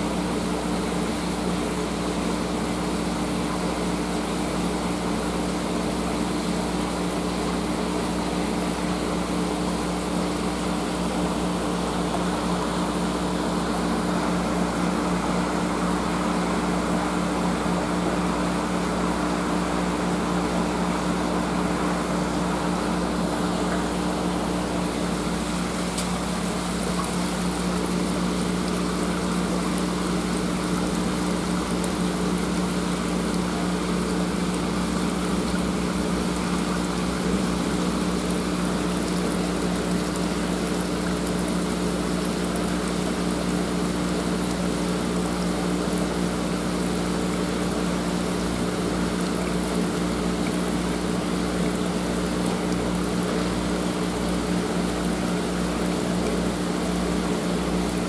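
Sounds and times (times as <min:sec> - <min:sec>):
water pump humming: 0:00.0 - 0:58.0
water rushing: 0:00.0 - 0:58.0.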